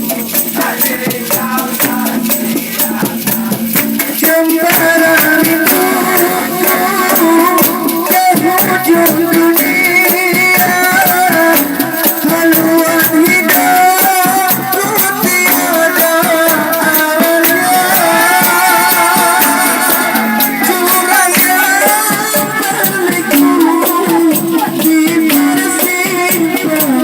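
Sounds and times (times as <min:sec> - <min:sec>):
fast steady percussion: 0:00.0 - 0:27.0
wavering melody with vibrato: 0:04.2 - 0:27.0.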